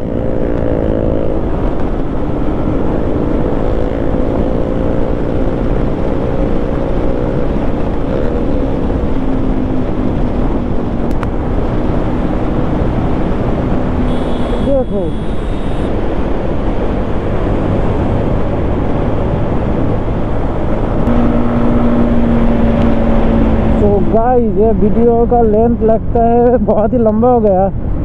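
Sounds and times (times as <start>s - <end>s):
motorcycle engine cruising: 0.0s - 26.4s
wind and road noise: 0.0s - 28.0s.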